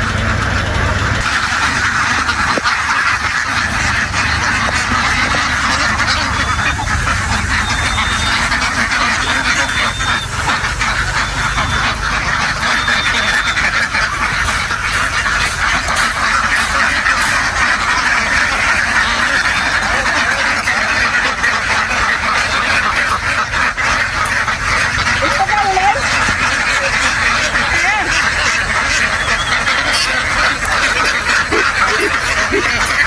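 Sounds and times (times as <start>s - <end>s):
flock of ducks quacking: 0.0s - 33.0s.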